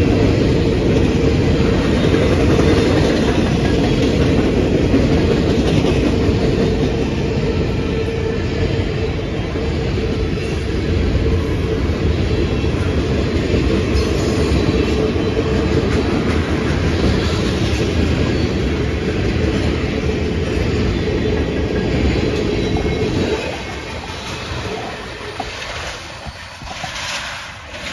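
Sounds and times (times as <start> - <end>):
freight train wheels on rails: 0.0 - 27.9.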